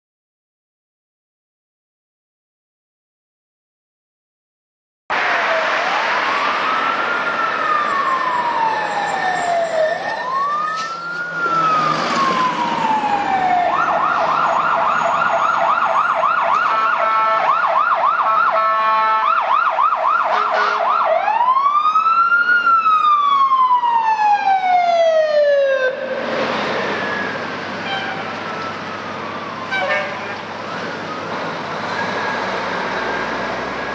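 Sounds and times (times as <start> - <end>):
fire truck siren: 5.1 - 33.9.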